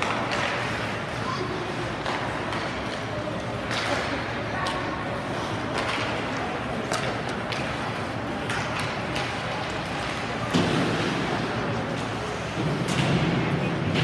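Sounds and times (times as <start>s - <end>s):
arena and crowd hum: 0.0s - 14.0s
hockey sticks and puck clacking: 0.0s - 14.0s.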